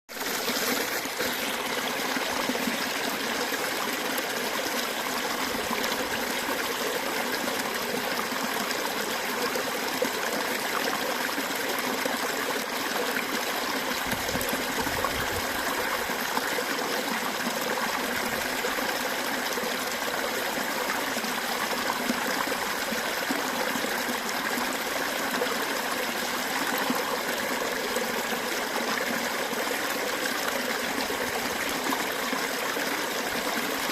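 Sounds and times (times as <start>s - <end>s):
stream flowing: 0.1s - 33.9s.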